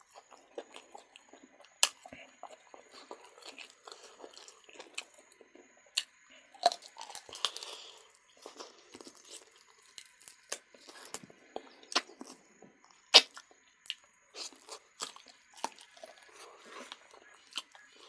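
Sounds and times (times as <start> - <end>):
person chewing and tearing meat: 0.0 - 12.4, 13.2 - 18.0.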